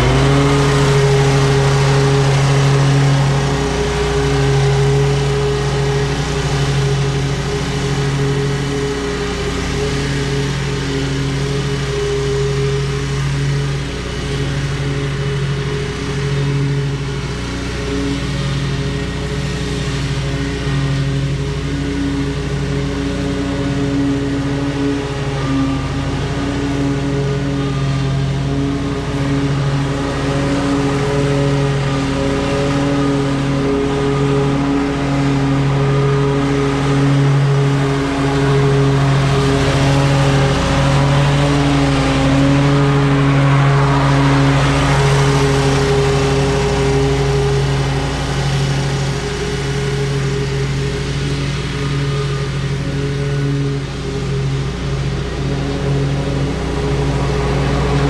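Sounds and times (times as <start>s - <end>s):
lawn mower engine hum: 0.0s - 58.0s.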